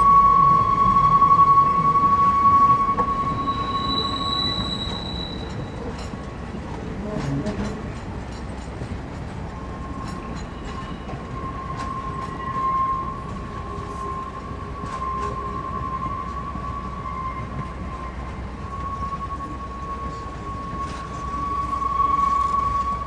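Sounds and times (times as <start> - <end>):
train wheels squealing on rails: 0.0 - 23.0.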